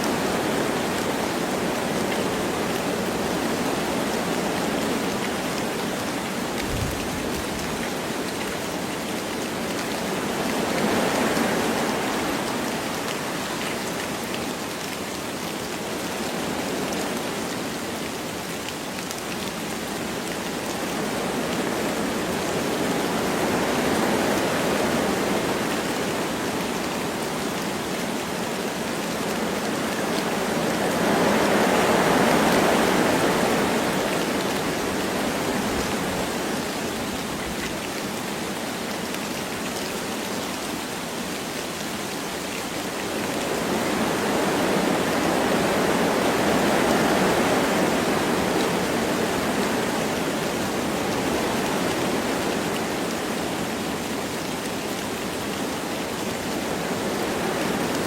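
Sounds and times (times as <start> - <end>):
patter of raindrops: 0.0 - 58.0
wind through forest trees: 0.0 - 58.0.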